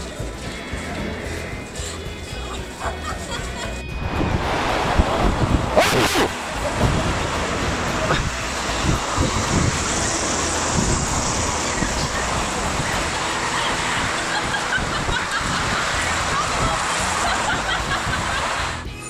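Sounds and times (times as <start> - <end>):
steady rushing noise: 0.0 - 18.9
faint voices: 0.0 - 19.0.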